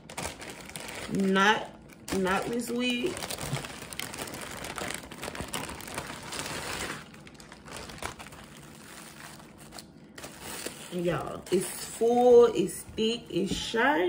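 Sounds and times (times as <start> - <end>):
plastic bag crinkling: 0.0 - 13.7.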